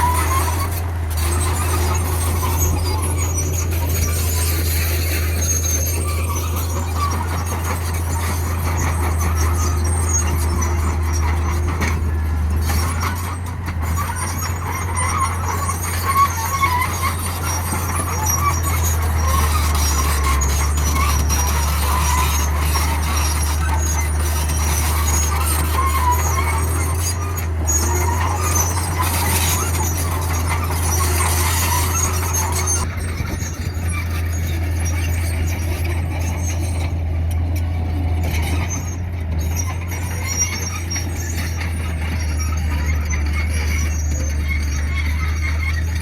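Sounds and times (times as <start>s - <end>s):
motors and gears squealing: 0.0s - 46.0s.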